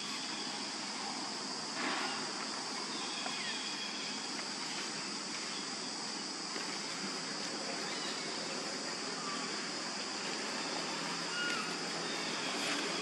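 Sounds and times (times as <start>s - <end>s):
insects droning: 0.0s - 13.0s
outdoor background hiss: 0.0s - 13.0s.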